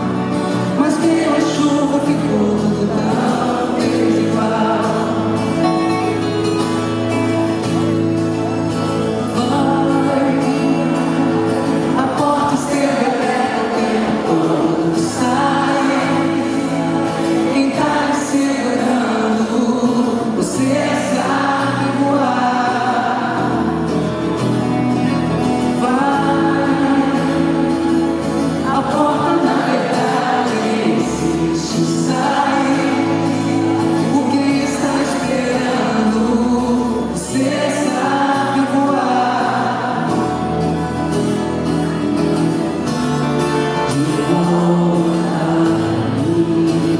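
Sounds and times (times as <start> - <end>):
person singing: 0.0 - 41.2, 43.4 - 46.9
band playing with bass: 0.0 - 46.9.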